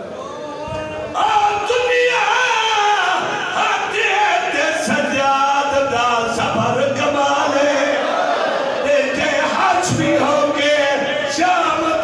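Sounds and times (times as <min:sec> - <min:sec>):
man singing a mournful lament: 0:00.6 - 0:08.0, 0:08.8 - 0:12.0.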